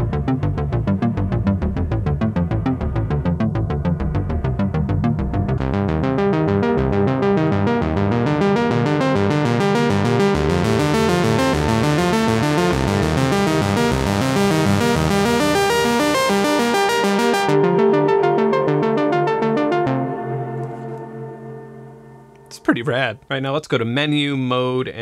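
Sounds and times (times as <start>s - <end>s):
synthesizer note sequence: 0.0s - 22.6s.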